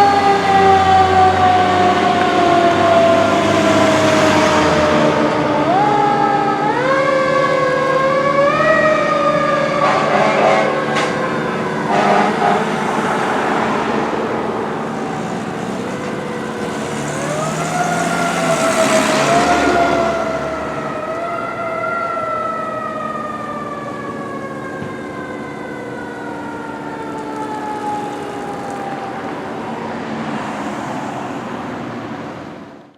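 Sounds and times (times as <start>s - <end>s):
fire engine siren: 0.0s - 32.9s
truck engine and road noise: 0.0s - 32.9s.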